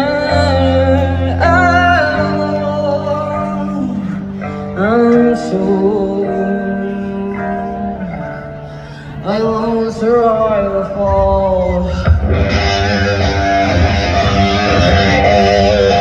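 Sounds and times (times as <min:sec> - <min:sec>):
bass notes: 0:00.0 - 0:16.0
electric guitar: 0:00.0 - 0:16.0
person singing with vibrato: 0:00.0 - 0:16.0.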